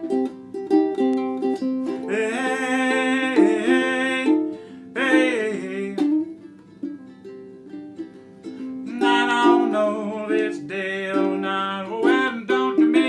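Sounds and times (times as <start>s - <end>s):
ukulele picking: 0.0s - 13.0s.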